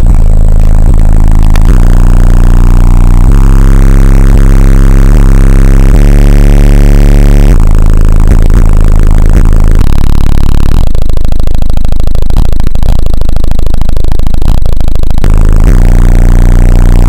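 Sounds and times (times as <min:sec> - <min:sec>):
distorted bass-heavy electronic music: 0:00.0 - 0:17.0.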